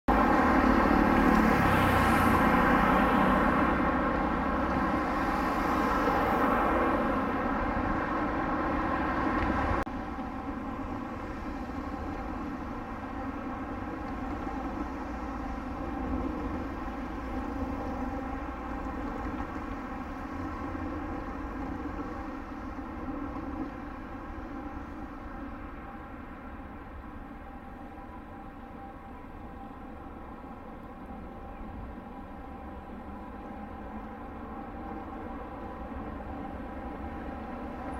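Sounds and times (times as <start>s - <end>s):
street traffic hum: 0.1s - 37.9s
streetcar: 0.1s - 37.9s.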